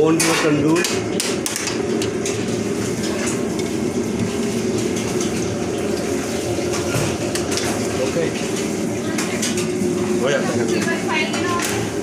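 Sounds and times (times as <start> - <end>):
kitchen equipment roar: 0.0 - 12.0.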